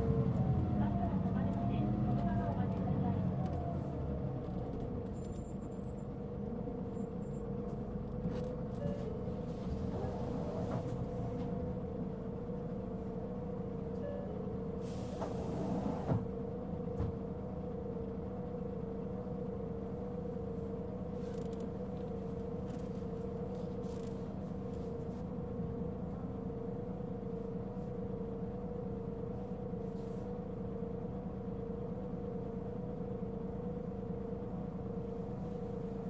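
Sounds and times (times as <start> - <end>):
bus diesel engine rumble: 0.0 - 36.0.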